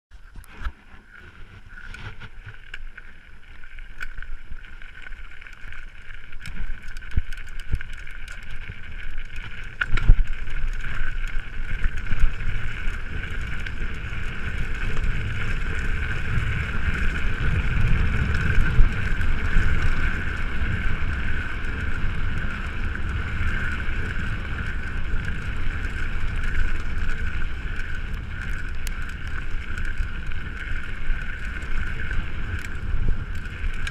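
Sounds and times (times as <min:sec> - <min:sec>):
bike tyres and frame rattling: 0:00.1 - 0:33.9
wind noise on microphone: 0:06.4 - 0:33.9.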